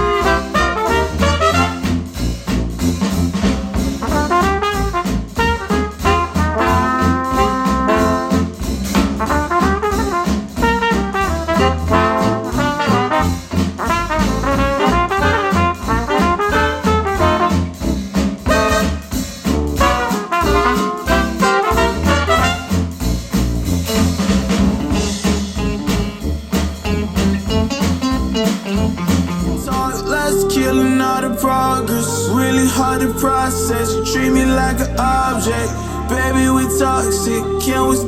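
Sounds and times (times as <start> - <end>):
jazz with brass horns and bass: 0.0 - 38.0.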